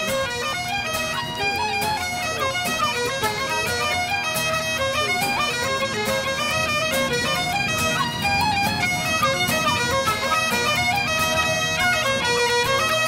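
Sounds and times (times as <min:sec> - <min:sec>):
bagpipe music: 0:00.0 - 0:13.0.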